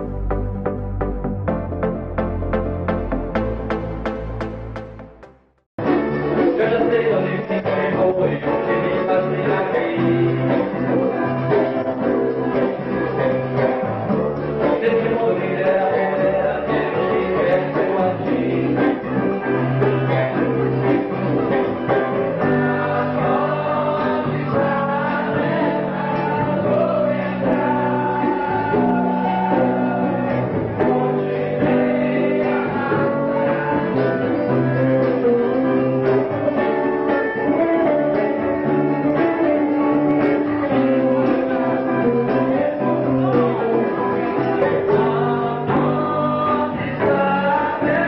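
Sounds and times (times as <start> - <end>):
acoustic guitar: 0.0 - 48.0
men singing into microphones: 6.3 - 48.0.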